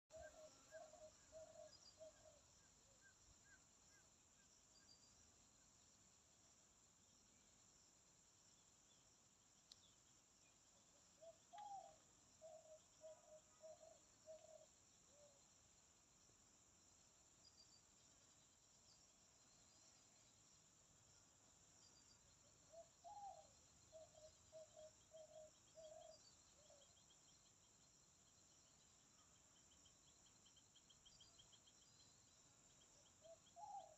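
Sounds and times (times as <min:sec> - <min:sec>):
insects chirping: 0:00.1 - 0:33.9.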